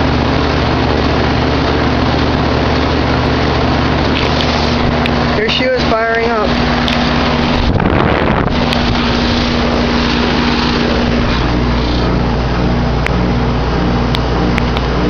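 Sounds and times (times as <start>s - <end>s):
condenser fan airflow rushing: 0.0s - 15.0s
heat pump compressor hum: 0.0s - 15.0s.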